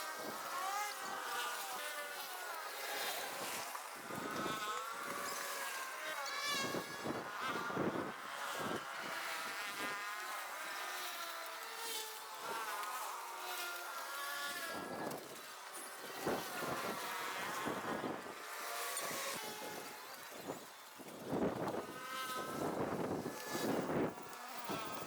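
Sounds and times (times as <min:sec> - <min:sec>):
small petrol engine buzzing whine: 0:00.0 - 0:25.0.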